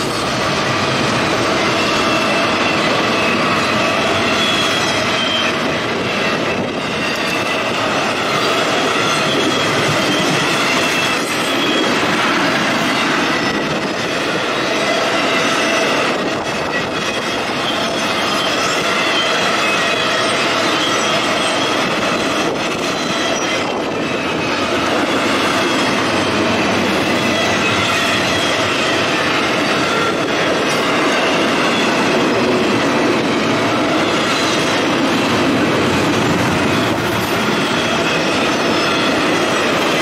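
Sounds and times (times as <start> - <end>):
freight train wheels rumbling on rail: 0.0 - 40.0
high-pitched wheel squeal: 1.5 - 32.4, 36.7 - 40.0.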